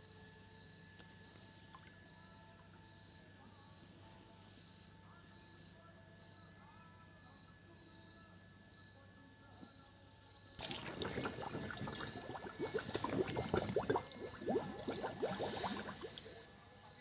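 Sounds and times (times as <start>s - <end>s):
faint high-pitched chirps: 0.0s - 17.0s
faint low hum: 0.0s - 17.0s.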